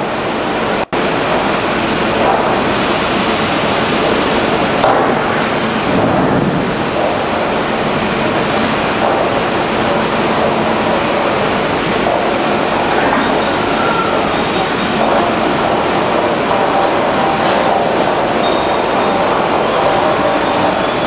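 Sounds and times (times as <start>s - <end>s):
heavy machinery roar: 0.0s - 21.0s.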